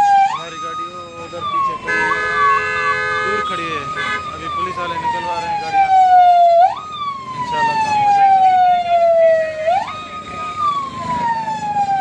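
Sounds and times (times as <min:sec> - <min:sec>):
emergency siren wailing: 0:00.0 - 0:12.0
traffic noise: 0:00.0 - 0:12.0.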